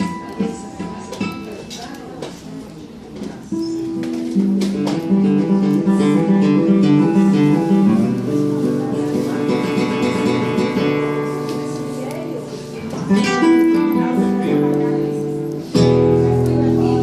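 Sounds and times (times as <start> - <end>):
acoustic guitar picked melody: 0.0 - 17.0.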